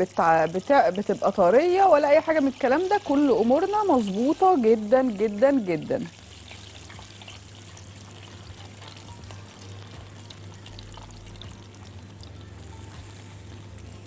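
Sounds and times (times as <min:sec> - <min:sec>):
chicken frying in hot oil: 0:00.0 - 0:14.0.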